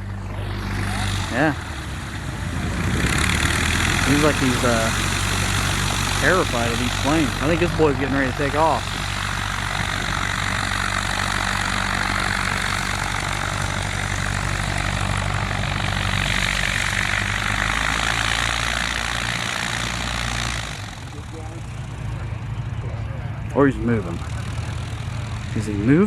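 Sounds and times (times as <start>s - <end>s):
propeller airplane engine droning: 0.0s - 26.0s.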